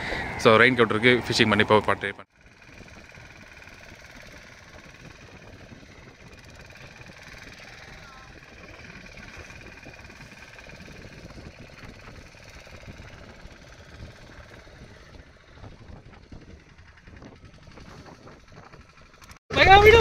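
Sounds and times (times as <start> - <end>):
boat engine running: 0.0 - 20.0
wind: 0.0 - 20.0.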